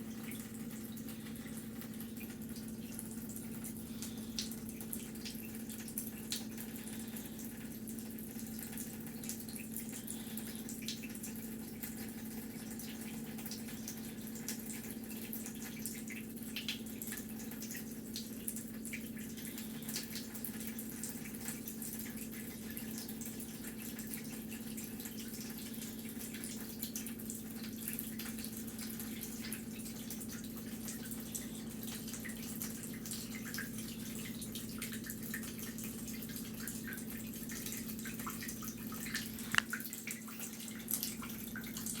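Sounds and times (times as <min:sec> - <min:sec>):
water drips and splashes: 0:00.0 - 0:42.0
water running from tap into sink: 0:00.0 - 0:42.0.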